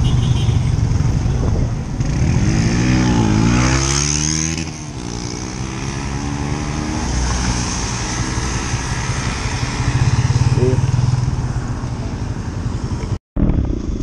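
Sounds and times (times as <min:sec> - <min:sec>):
motorcycle engines pulling away: 0:00.0 - 0:14.0.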